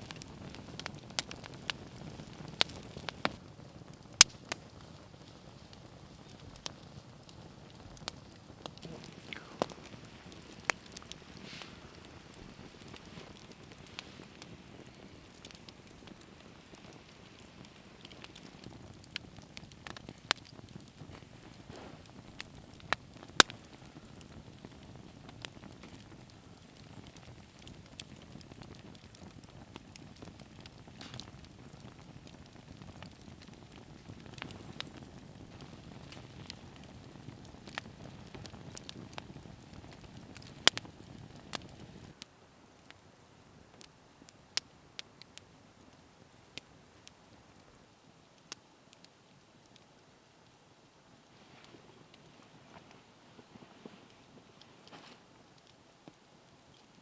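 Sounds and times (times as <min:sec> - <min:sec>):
bonfire crackling and popping: 0:00.0 - 0:57.0.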